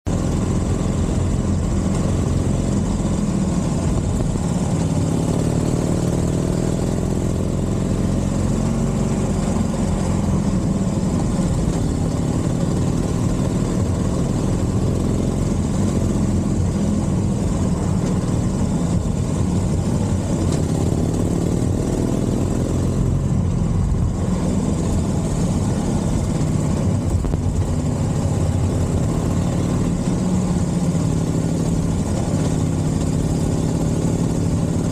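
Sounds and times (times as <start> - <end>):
motorcycle engine at low revs: 0.0 - 34.9.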